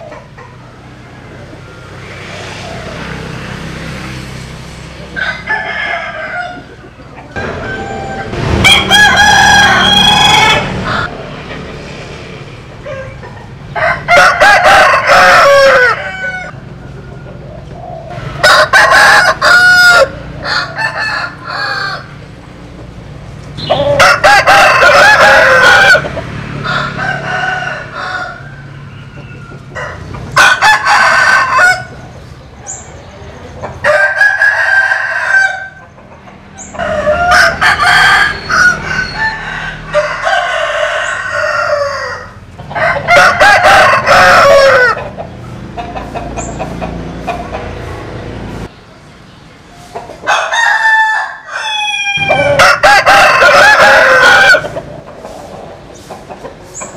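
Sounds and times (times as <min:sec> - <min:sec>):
chickens clucking: 0:00.0 - 0:03.8, 0:04.8 - 0:12.2, 0:12.8 - 0:15.1, 0:15.9 - 0:50.7, 0:51.5 - 0:56.9
roosters crowing: 0:00.0 - 0:48.7, 0:49.8 - 0:56.9.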